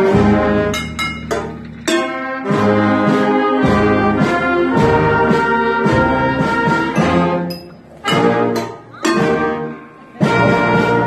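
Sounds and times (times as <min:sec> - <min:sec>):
wind band playing chords: 0:00.0 - 0:11.0.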